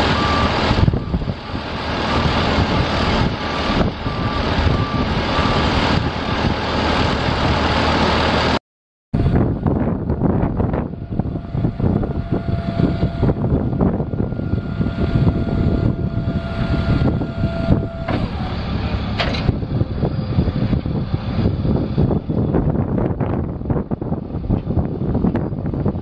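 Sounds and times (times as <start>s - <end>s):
diesel truck engine running: 0.0s - 8.6s, 9.2s - 26.0s.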